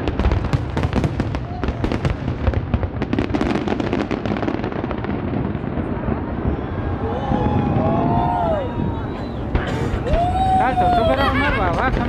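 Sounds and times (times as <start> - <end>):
fireworks bursts and crackles: 0.0 - 12.0.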